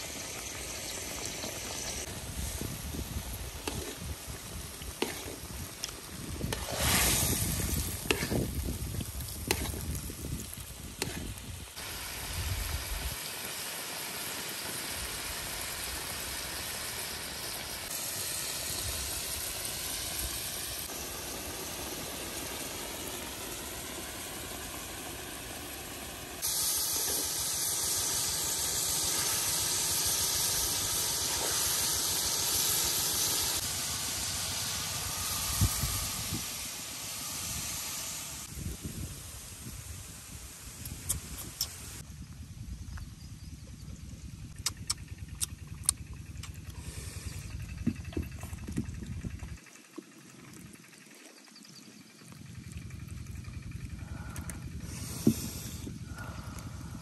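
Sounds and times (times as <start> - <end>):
bubbling liquid hiss: 0.0 - 42.4, 43.5 - 57.0.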